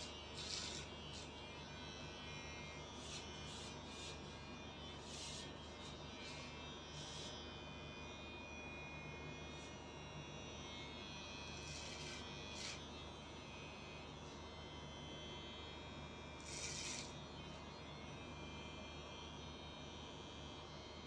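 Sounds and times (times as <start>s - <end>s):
electric hair clipper buzzing: 0.0s - 18.5s.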